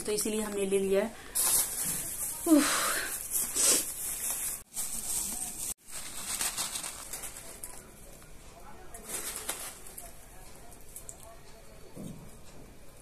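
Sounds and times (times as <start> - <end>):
plastic bag and packet rustling: 0.0 - 10.8.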